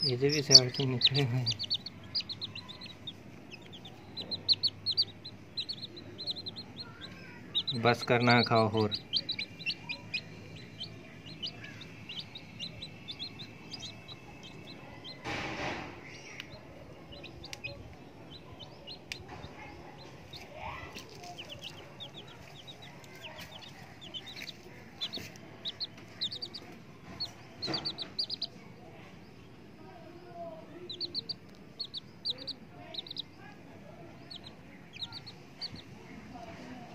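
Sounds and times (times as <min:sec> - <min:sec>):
baby chicks peeping: 0:00.0 - 0:36.9.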